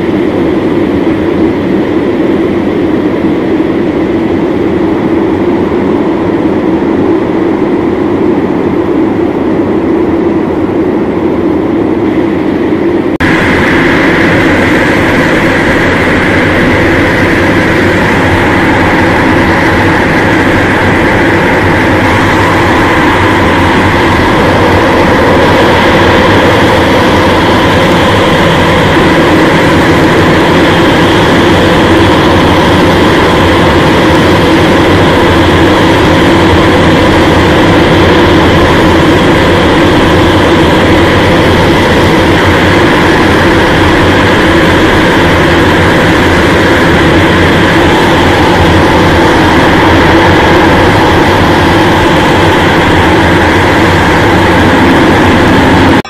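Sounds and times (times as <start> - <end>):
loud electronic drone: 0.0 - 56.0.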